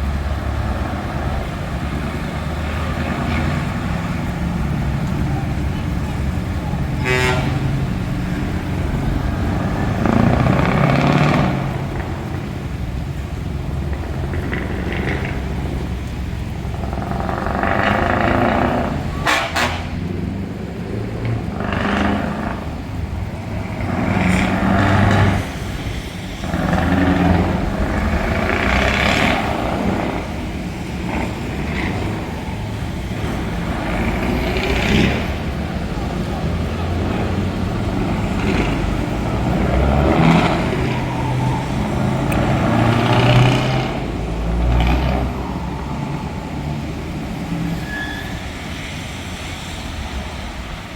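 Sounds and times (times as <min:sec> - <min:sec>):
truck engines idling and revving: 0:00.0 - 0:50.9.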